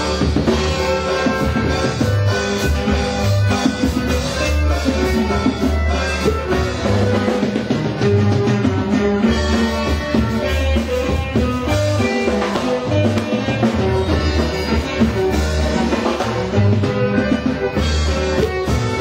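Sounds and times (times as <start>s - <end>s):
band playing instrumental music: 0.0s - 19.0s.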